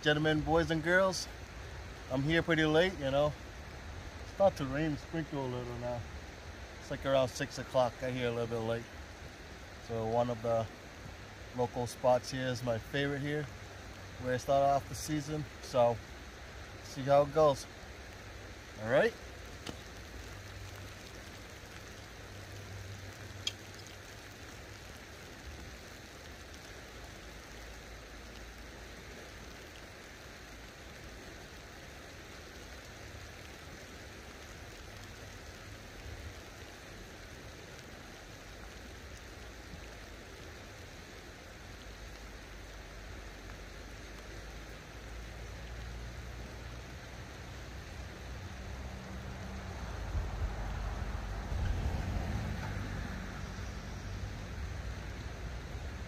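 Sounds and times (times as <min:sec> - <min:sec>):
light rain on river: 0:00.0 - 0:56.0.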